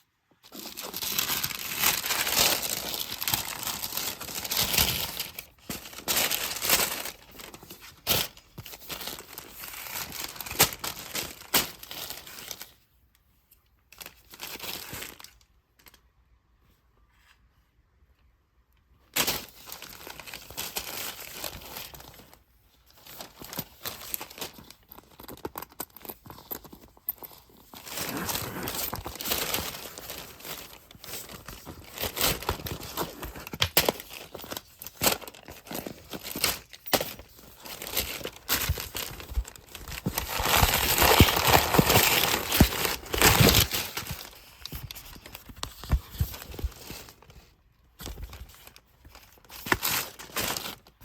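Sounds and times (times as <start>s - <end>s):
packaging crinkling and tearing: 0.5s - 12.8s, 19.2s - 51.0s.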